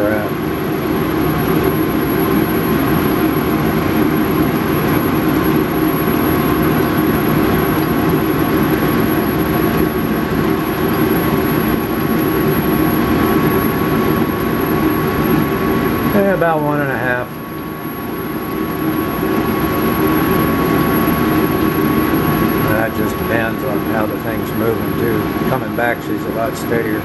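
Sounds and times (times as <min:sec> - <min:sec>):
metal lathe running: 0:00.0 - 0:27.0.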